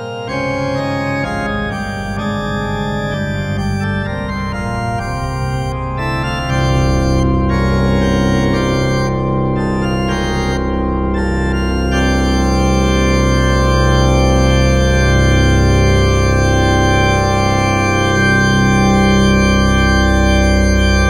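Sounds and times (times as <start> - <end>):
organ playing chords: 0.0 - 21.0.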